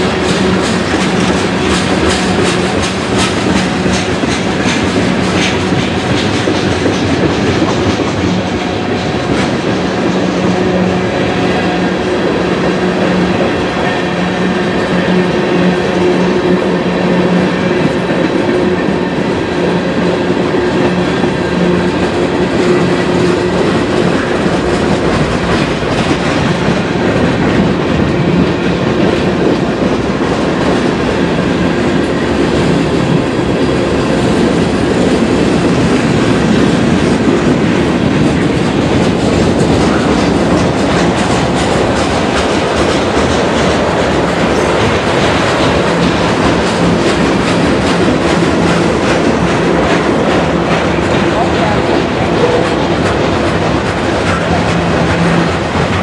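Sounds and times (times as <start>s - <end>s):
steel wheels clicking over rail joints: 0.0s - 56.0s.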